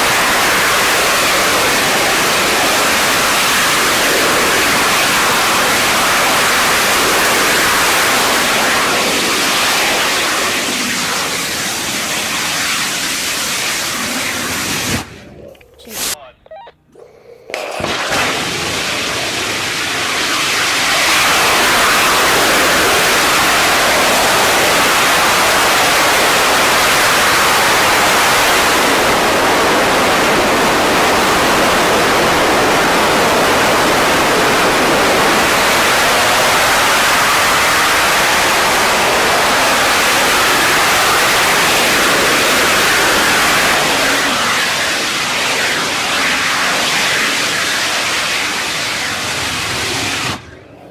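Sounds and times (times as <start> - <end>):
rocket engine roaring: 0.0 - 16.6, 17.4 - 50.9.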